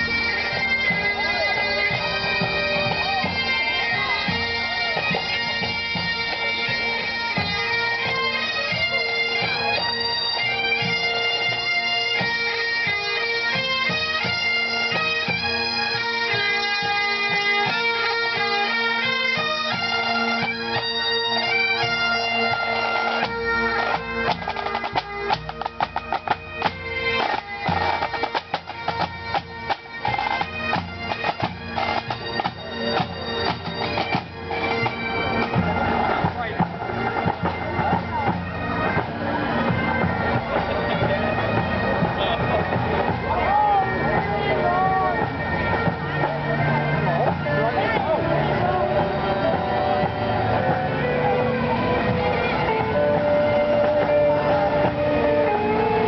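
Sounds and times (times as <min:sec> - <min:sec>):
bagpipes playing: 0:00.0 - 0:56.0
drums: 0:00.0 - 0:56.0.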